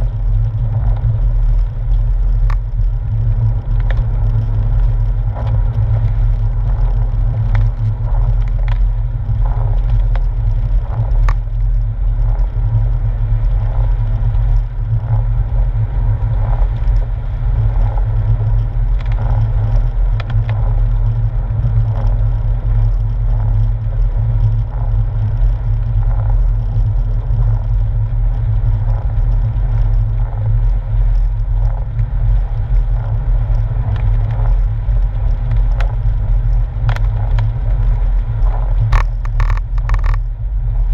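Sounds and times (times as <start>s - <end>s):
car engine drone inside cabin: 0.0s - 40.9s
faint ticks: 0.0s - 40.9s
tyre noise on wet road: 0.0s - 40.9s.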